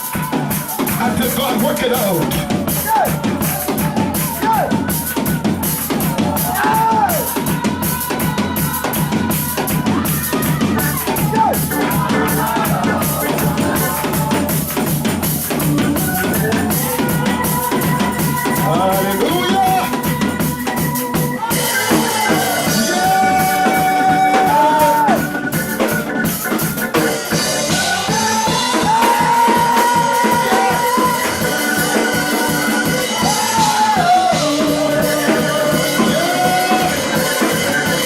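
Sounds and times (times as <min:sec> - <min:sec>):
keyboard or organ chords: 0:00.0 - 0:38.0
rapid drum strokes: 0:00.0 - 0:38.0
worship band playing: 0:00.0 - 0:38.0.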